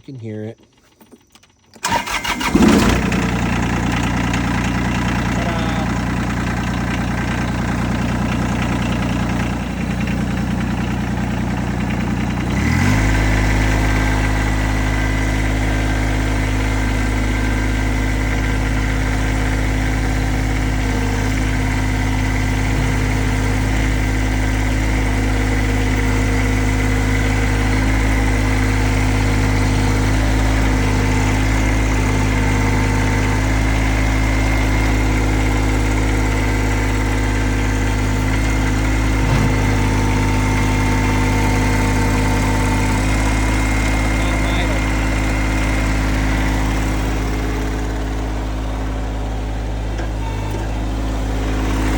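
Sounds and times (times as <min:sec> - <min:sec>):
diesel tractor engine: 0:00.0 - 0:51.9.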